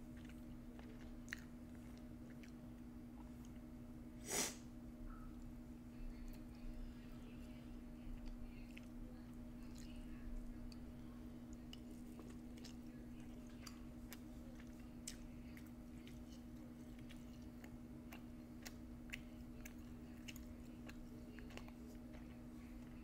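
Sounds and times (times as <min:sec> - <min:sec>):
chewing food: 0:00.0 - 0:03.8, 0:05.4 - 0:23.0
steady low hum: 0:00.0 - 0:23.0.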